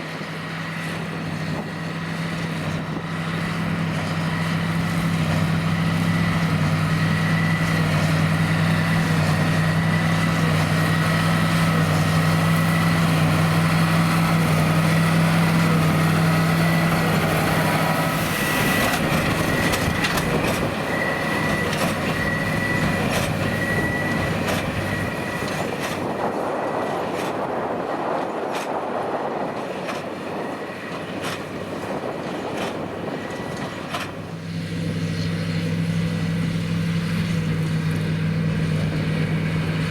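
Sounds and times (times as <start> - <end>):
tractor diesel engine working: 0.0 - 39.9.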